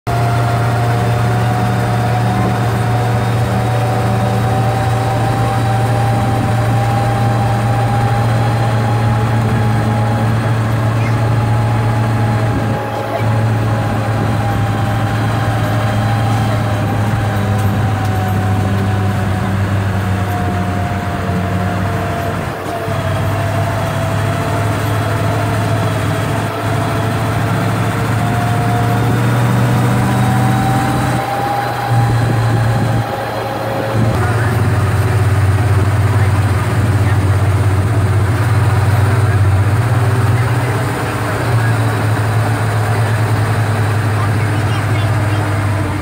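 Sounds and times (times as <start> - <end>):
vehicle engine low drone: 0.0 - 46.0.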